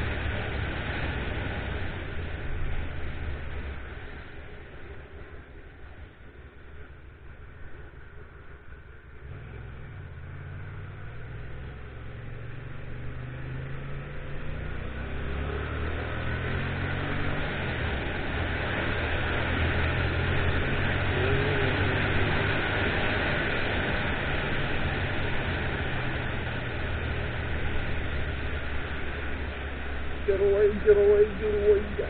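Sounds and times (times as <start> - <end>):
motorcycle engine accelerating: 0.0 - 32.0
wind and road noise: 0.0 - 32.0.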